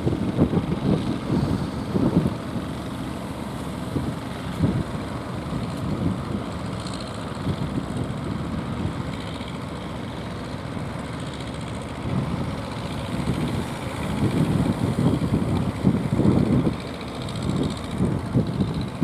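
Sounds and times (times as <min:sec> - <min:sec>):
wind buffeting microphone: 0:00.0 - 0:09.9, 0:10.5 - 0:19.0
boat engine running: 0:00.0 - 0:19.0.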